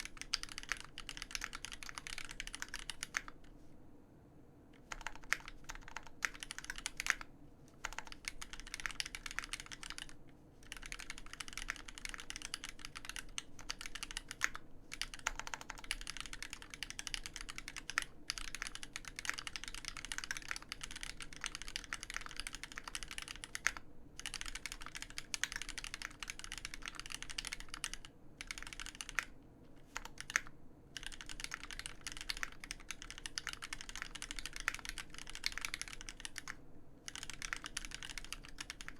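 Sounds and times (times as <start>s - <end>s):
mechanical keyboard typing: 0.0s - 3.4s, 4.8s - 38.9s.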